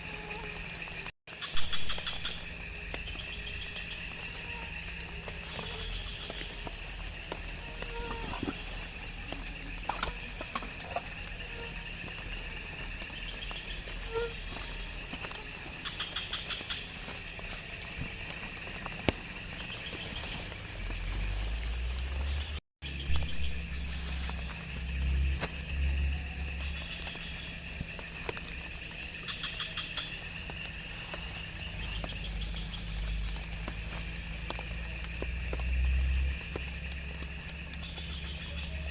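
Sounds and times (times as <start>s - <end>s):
forest insects chorus: 0.0s - 38.9s.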